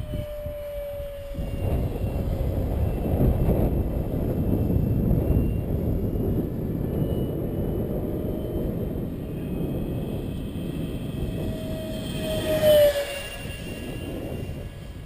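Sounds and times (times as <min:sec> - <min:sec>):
low rushing noise: 0:00.0 - 0:15.0
model jet fan whine passing: 0:00.0 - 0:15.0.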